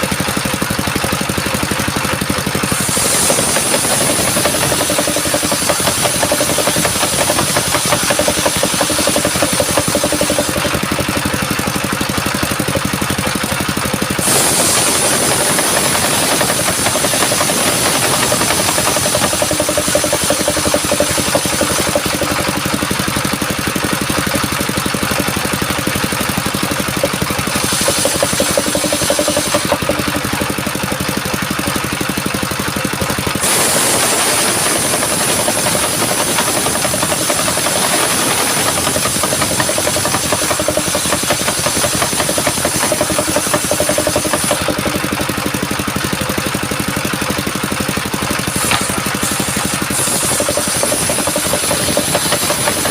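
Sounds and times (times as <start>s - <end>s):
diesel engine running: 0.0s - 52.9s
saw blade ripping wood with hiss: 2.2s - 12.3s, 13.4s - 24.7s, 25.5s - 32.2s, 33.1s - 52.9s.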